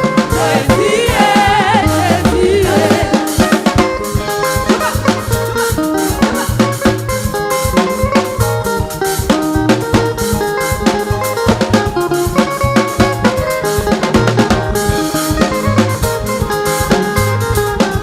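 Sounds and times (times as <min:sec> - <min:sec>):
drum kit beat: 0:00.0 - 0:18.0
instrumental band music: 0:00.0 - 0:18.0.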